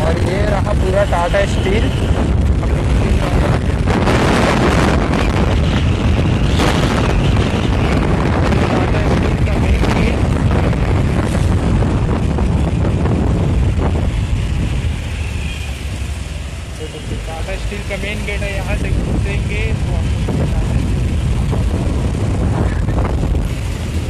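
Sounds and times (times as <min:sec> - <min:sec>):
road traffic: 0:00.0 - 0:24.0
wind buffeting microphone: 0:00.0 - 0:24.0.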